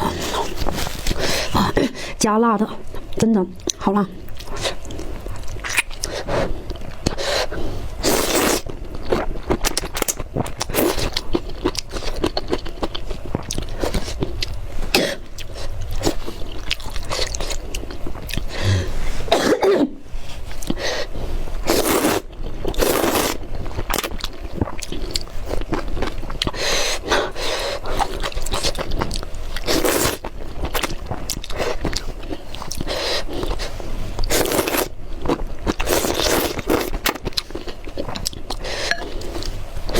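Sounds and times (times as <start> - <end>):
chewing noodles: 3.1 - 18.7, 20.5 - 39.9.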